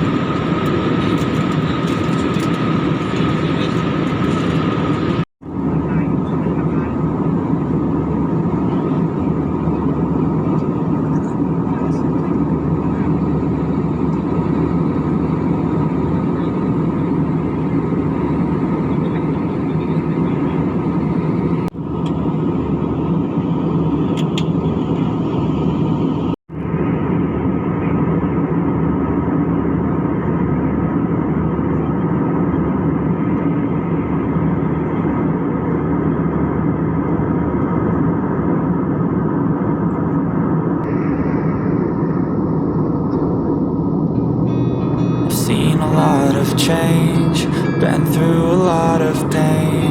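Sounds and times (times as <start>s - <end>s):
airliner jet engine roar: 0.0s - 49.9s
constant humming tones: 0.0s - 49.9s.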